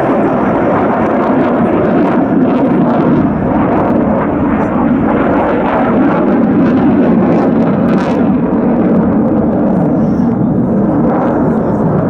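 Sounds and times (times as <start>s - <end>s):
fighter jet roar: 0.0s - 12.0s.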